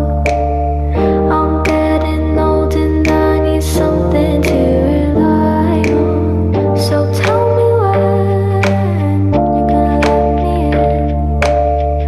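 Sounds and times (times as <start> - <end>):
light steady beat: 0.0 - 12.0
slow background music: 0.0 - 12.0
sung or hummed melody: 0.0 - 12.0.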